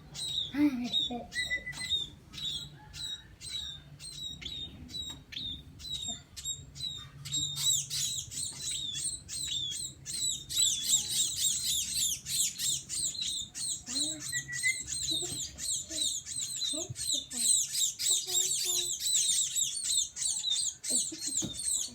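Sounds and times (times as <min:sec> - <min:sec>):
flock of birds chirping: 0:00.0 - 0:21.9.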